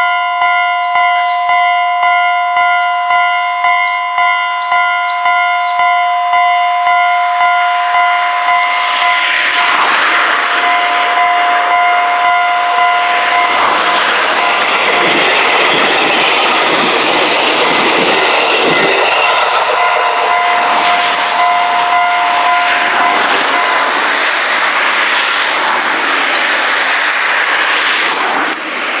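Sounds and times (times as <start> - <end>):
steady high tones: 0.0 - 26.6
train clattering: 0.0 - 29.0
train wheels rushing on rails: 0.0 - 29.0.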